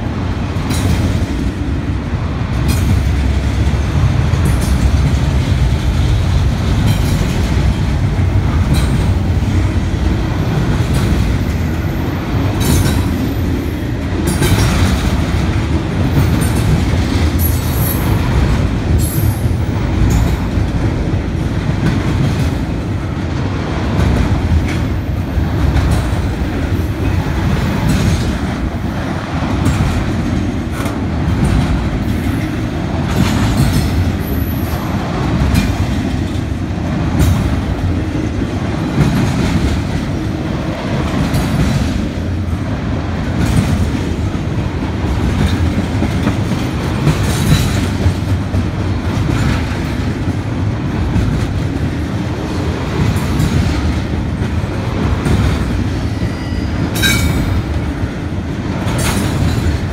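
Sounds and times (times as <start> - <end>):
freight train wheels rumbling: 0.0 - 59.9
wheels clacking over rail joints: 0.0 - 59.9.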